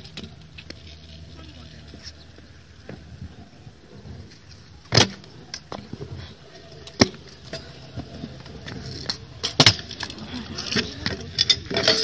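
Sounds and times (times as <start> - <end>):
wheels rolling rumble: 0.0 - 12.0.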